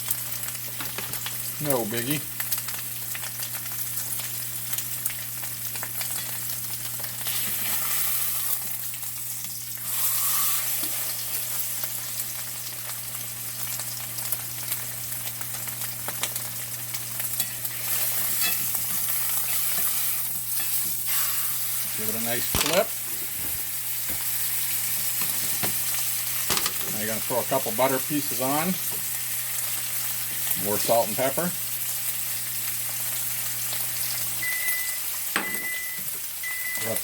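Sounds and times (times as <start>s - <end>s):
steak sizzling in skillet: 0.0s - 37.0s.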